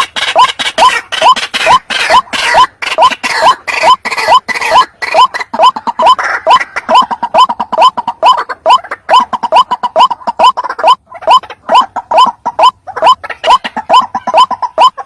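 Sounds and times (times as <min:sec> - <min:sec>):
waterhen croaking call: 0:00.0 - 0:15.0.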